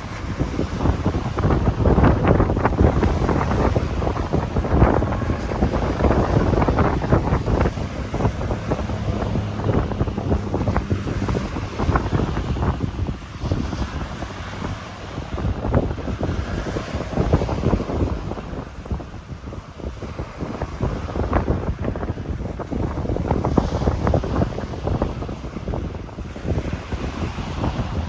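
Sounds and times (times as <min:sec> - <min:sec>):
ocean waves breaking: 0:00.0 - 0:28.0
wind buffeting microphone: 0:00.0 - 0:28.0.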